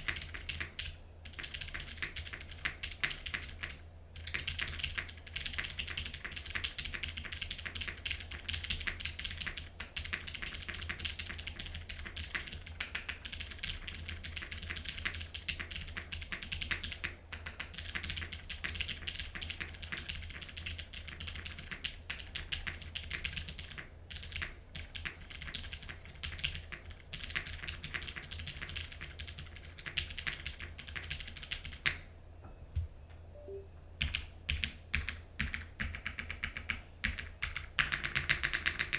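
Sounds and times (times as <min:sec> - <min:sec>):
fast typing on mechanical keyboard: 0:00.0 - 0:32.0, 0:34.0 - 0:38.9
faint low hum: 0:00.0 - 0:38.9.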